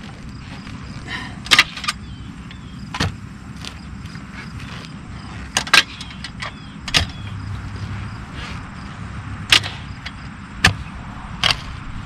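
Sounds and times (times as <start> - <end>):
post hole digger clanking into soil: 0.0 - 7.4, 9.5 - 11.8.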